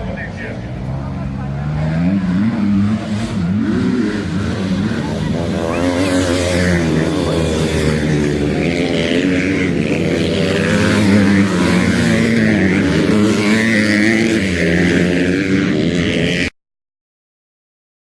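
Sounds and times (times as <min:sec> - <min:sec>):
motocross bike engines revving: 0:00.0 - 0:16.5.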